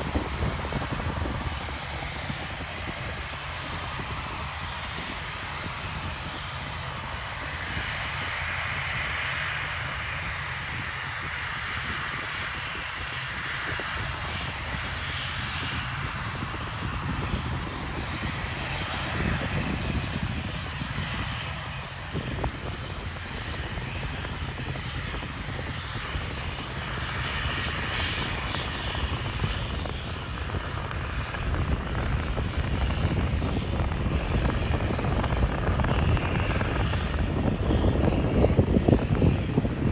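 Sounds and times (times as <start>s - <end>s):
aircraft engines roaring: 0.0s - 39.9s.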